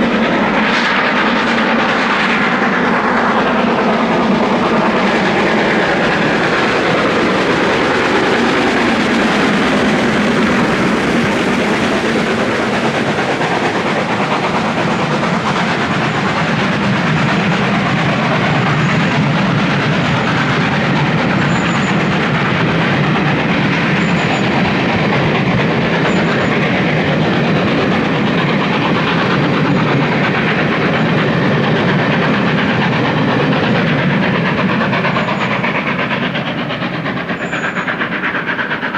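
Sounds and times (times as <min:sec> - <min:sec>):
rush of steam and running gear: 0:00.0 - 0:38.9
steam locomotive exhaust beats: 0:00.0 - 0:38.9.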